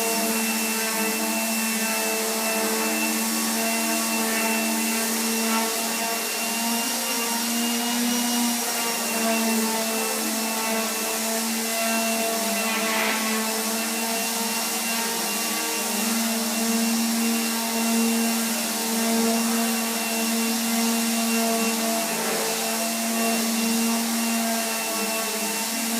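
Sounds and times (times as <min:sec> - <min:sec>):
electric sander on wood: 0:00.0 - 0:25.9.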